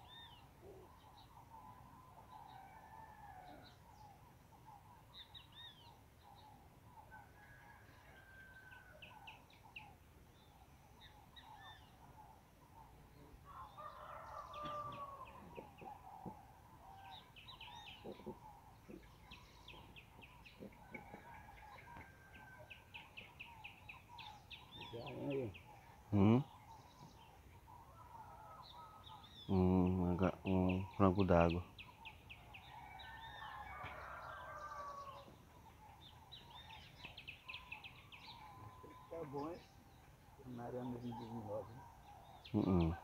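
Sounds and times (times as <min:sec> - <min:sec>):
birds chirping and trilling: 0:00.0 - 0:43.0.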